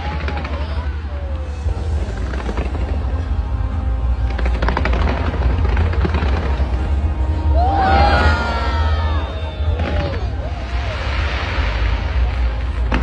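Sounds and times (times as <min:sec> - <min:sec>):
fireworks crackling: 0:00.0 - 0:13.0
fireworks booming: 0:01.6 - 0:13.0.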